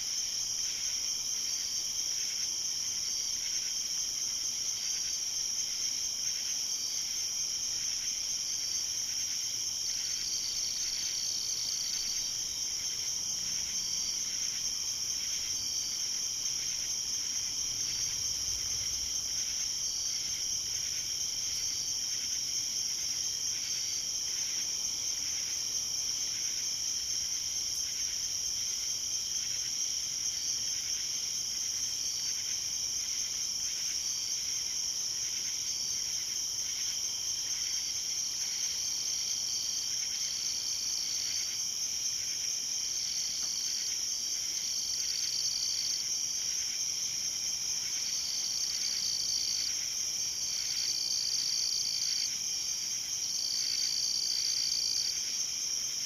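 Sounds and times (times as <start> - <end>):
lower insect trill: 0.0 - 56.0.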